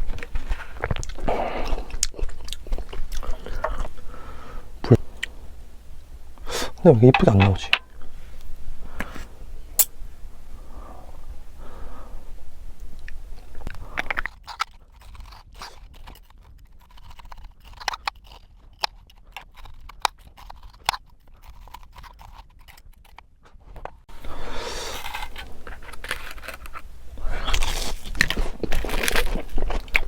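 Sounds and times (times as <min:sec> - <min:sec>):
person chewing food: 0:00.0 - 0:09.4, 0:12.9 - 0:30.0.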